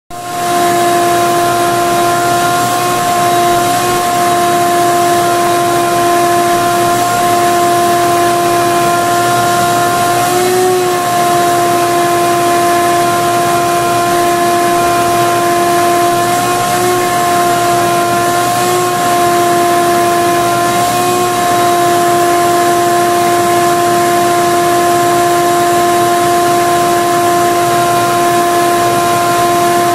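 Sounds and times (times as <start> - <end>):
vacuum cleaner running: 0.1 - 29.9.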